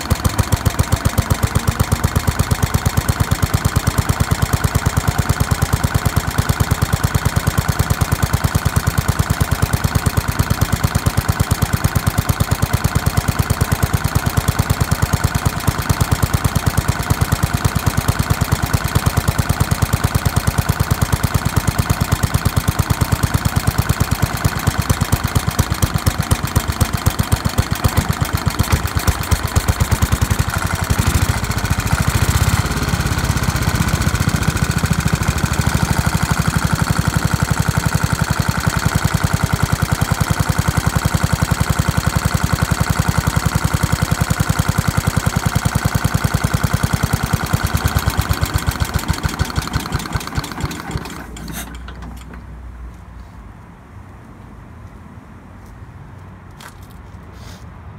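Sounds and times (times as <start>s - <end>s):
single-cylinder engine running: 0.0s - 52.6s.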